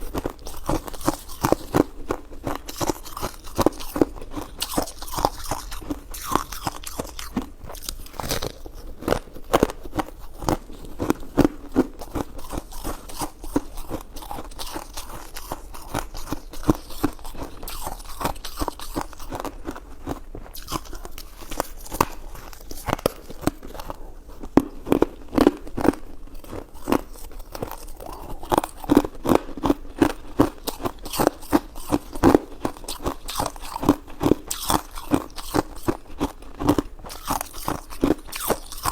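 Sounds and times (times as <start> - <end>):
chewing and biting sticky food: 0.0 - 38.9.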